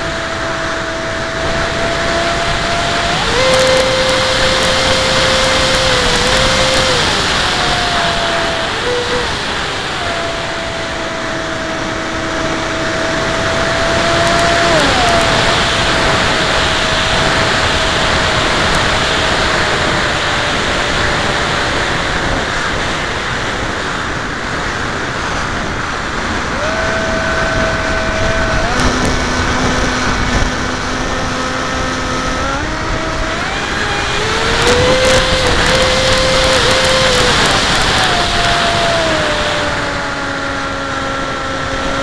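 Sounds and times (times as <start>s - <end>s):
electric motor and propeller whining: 0.0s - 42.0s
loud rush of air: 0.0s - 42.0s.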